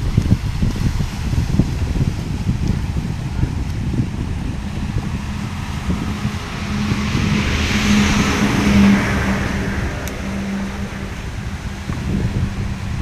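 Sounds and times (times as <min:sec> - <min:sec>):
engine passing with rushing hum: 0:00.0 - 0:13.0
wind buffeting microphone: 0:00.0 - 0:13.0.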